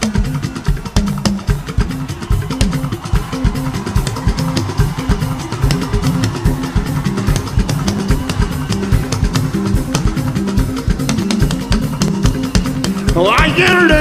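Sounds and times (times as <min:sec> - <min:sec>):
drum kit fast beat: 0:00.0 - 0:14.0.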